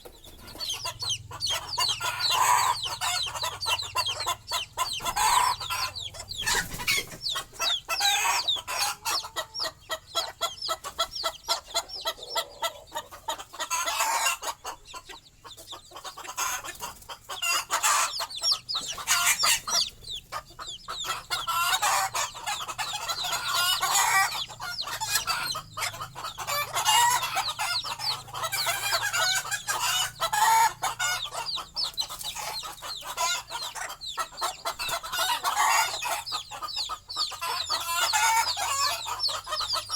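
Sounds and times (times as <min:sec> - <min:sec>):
baby chicks peeping: 0:00.0 - 0:39.9
hen clucking: 0:00.0 - 0:39.9.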